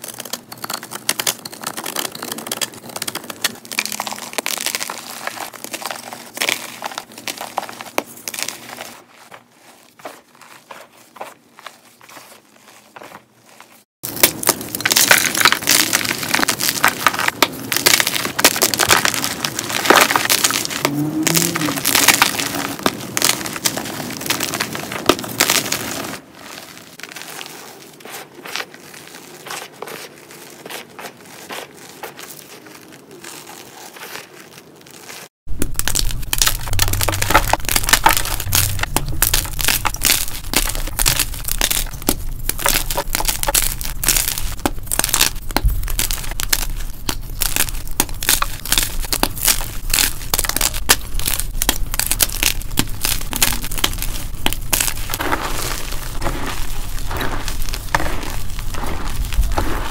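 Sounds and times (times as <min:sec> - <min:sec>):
chalk crunching and crumbling: 0:00.0 - 0:59.9.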